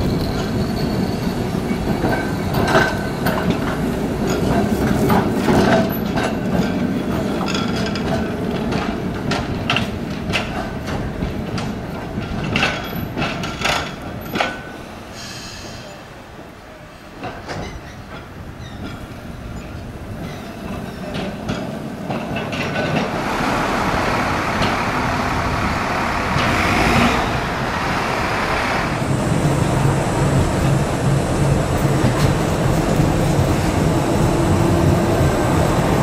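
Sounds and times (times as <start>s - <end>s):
tram clicks and knocks: 0.0s - 15.0s, 17.1s - 36.0s
tram rumbling on rails: 0.0s - 36.0s.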